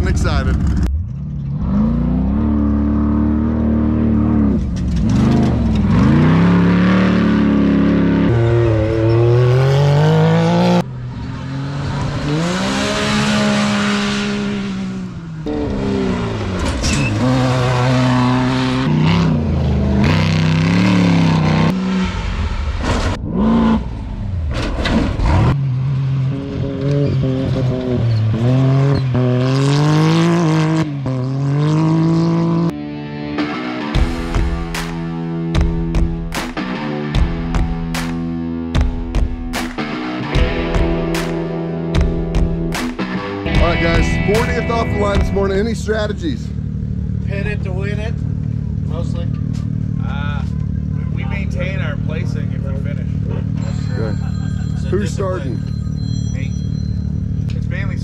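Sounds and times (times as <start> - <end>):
race vehicle engines revving: 0.0 - 32.8, 39.6 - 58.0
vehicle passing rush: 0.0 - 33.0, 39.8 - 58.0.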